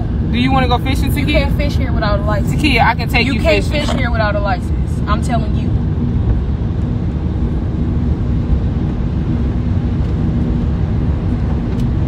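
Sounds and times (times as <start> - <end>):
faint steady hum: 0.0 - 12.0
road and engine rumble in car: 0.0 - 12.0.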